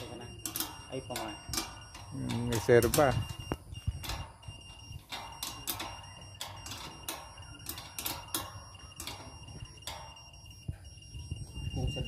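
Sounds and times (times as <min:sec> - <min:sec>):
steady high beep tone: 0:00.0 - 0:12.0.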